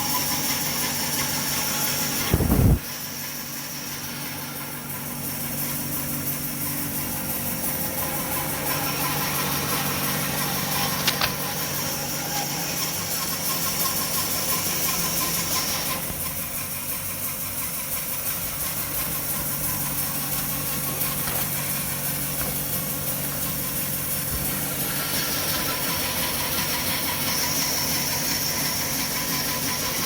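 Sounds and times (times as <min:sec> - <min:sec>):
power saw cutting wood: 0:00.0 - 0:30.0.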